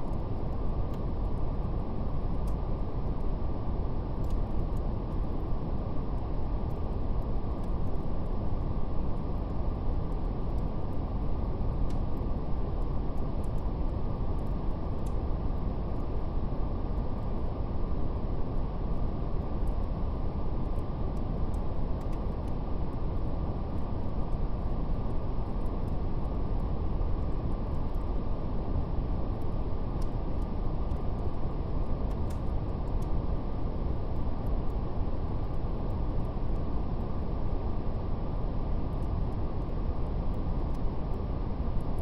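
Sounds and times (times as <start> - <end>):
deep rumbling brown noise: 0.0 - 42.0
faint fire crackles: 0.0 - 42.0.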